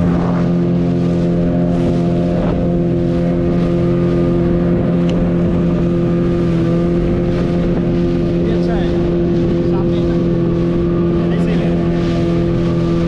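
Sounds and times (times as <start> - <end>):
speedboat motor running: 0.0 - 13.0
water rushing off hull: 0.0 - 13.0.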